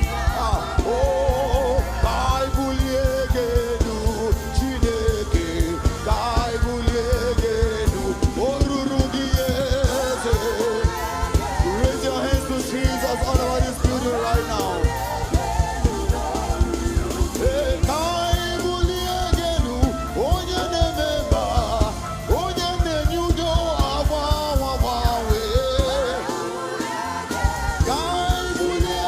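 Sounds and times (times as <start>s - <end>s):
band with steady drum beat: 0.0s - 29.0s.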